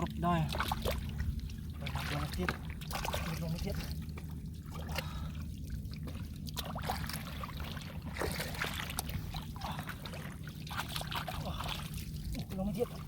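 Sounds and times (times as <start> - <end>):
mud squelching: 0.0 - 13.0
steady low hum: 0.0 - 13.0
water dripping and splashing: 0.0 - 13.0.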